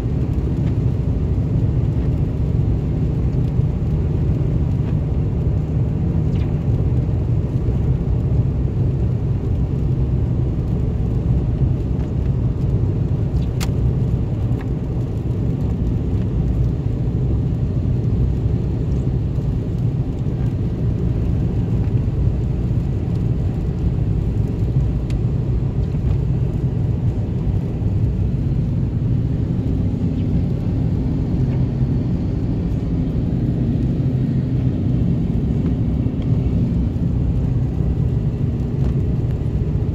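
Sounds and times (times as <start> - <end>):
car cabin road rumble: 0.0 - 39.9
tyres on wet pavement: 0.0 - 39.9.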